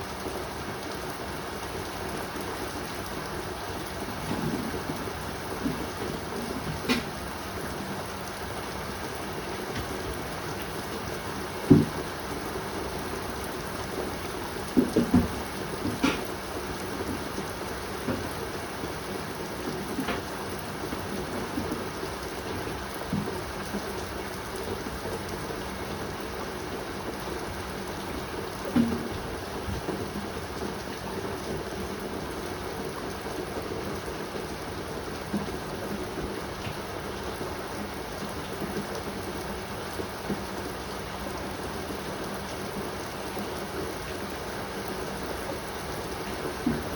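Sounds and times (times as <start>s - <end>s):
pouring rain: 0.0s - 46.9s.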